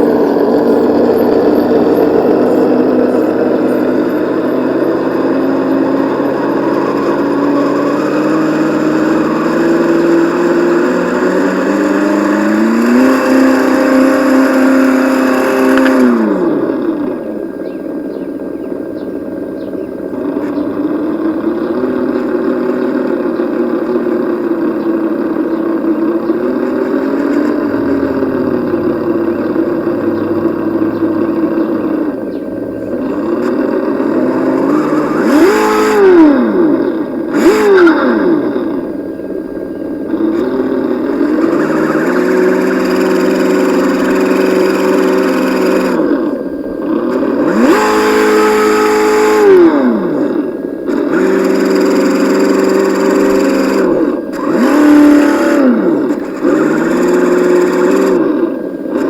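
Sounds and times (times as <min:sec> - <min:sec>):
simulated engine revving from speaker: 0:00.0 - 0:17.6, 0:20.1 - 0:59.0.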